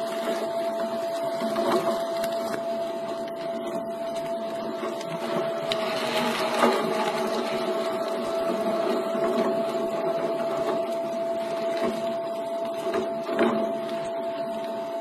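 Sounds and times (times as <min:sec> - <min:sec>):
meat grinder motor whine: 0:00.0 - 0:15.0.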